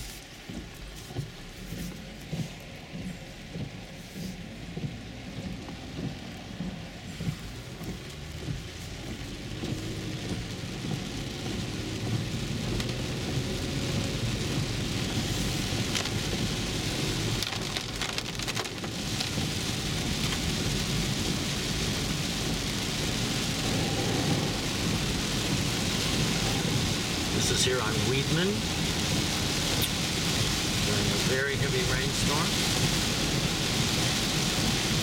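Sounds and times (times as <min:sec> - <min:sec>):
heavy rain on car roof: 0:00.0 - 0:35.0
tyres rumbling on wet road: 0:00.0 - 0:35.0.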